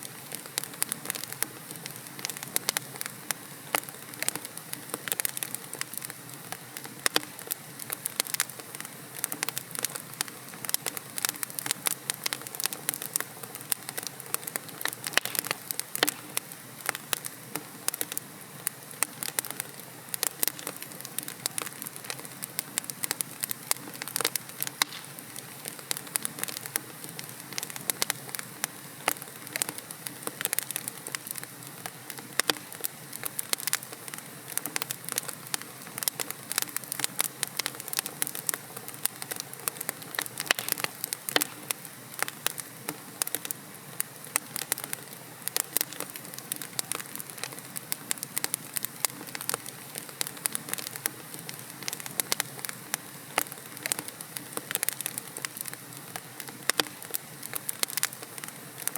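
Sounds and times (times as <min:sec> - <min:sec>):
wood logs crackling in fireplace: 0:00.0 - 0:58.9.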